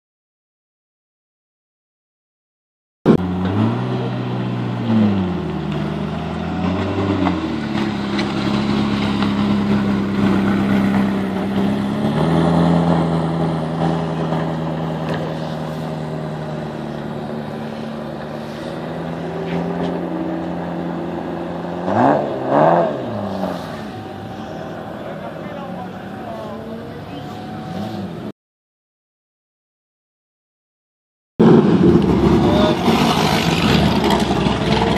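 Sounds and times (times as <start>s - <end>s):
car engine low drone: 3.1s - 28.3s, 31.4s - 34.9s
car engine revving: 3.1s - 28.3s, 31.4s - 34.9s.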